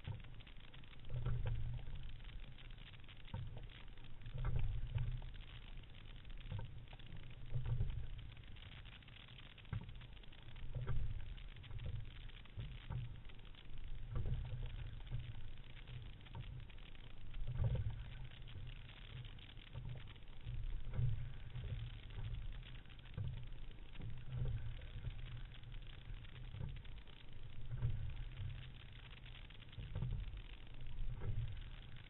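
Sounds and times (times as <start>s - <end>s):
low rumble of rowing strokes: 0.0s - 32.0s
water washing against hull: 0.0s - 32.0s.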